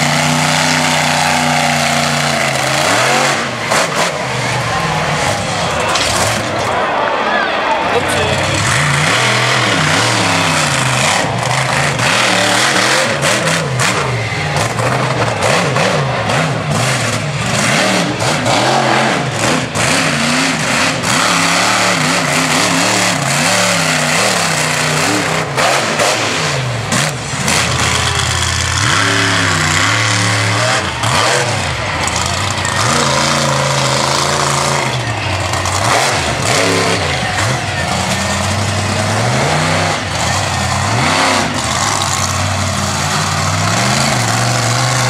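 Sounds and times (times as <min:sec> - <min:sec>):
monster truck engines revving: 0:00.0 - 0:45.0.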